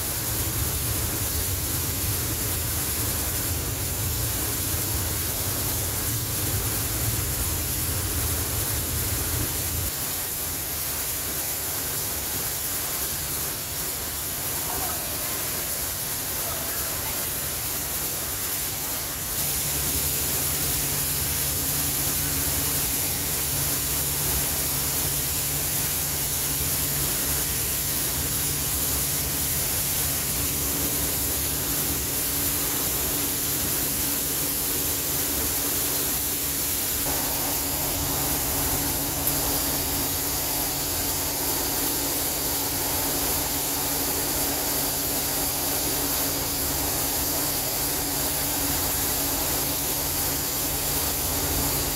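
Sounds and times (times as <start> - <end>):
dryer blowers and burners hissing: 0.0 - 51.9.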